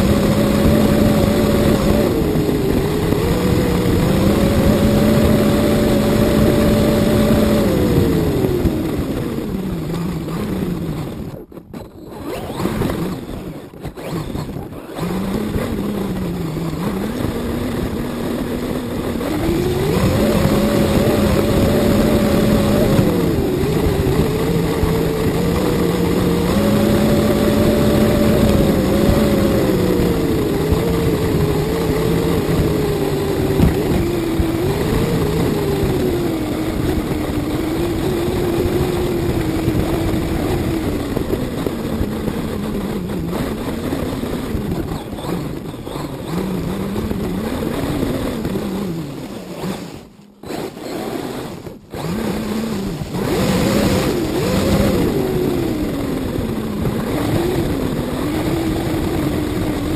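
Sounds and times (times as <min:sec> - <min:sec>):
rc car motor revving: 0:00.0 - 0:59.9
tyre and chassis noise: 0:00.0 - 0:59.9.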